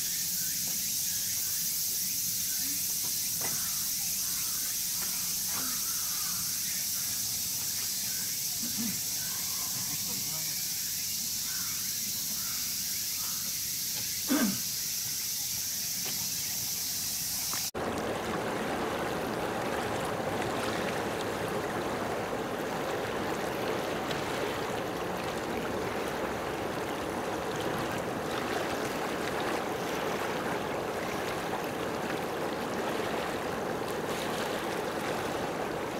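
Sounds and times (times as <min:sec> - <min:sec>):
running water: 0:00.0 - 0:35.9.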